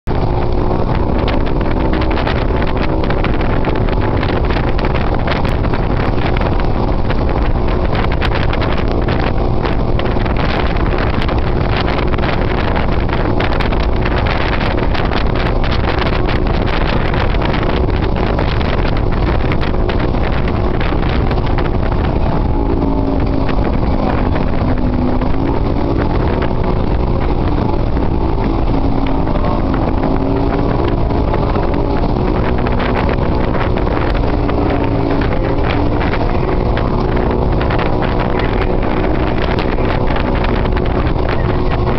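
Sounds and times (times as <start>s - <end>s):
outboard motorboat engines: 0.0s - 41.9s
wind buffeting microphone: 0.0s - 41.9s
water splashing: 0.1s - 41.9s.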